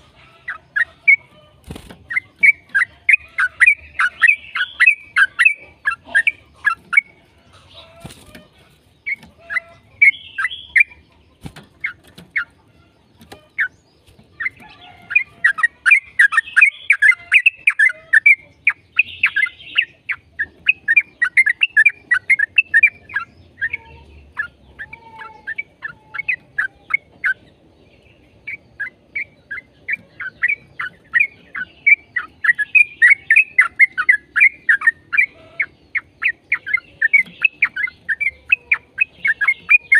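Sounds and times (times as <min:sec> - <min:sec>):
bird singing rapid chirping runs: 0:00.0 - 0:39.9.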